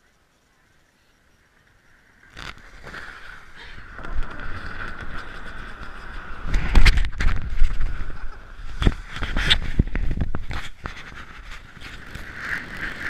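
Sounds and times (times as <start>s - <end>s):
snow tube scraping hiss on snow: 1.9s - 13.0s.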